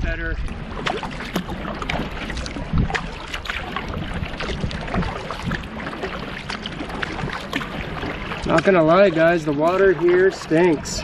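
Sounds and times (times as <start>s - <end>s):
wind on microphone: 0.0s - 11.0s
paddle splashing water: 0.4s - 11.0s.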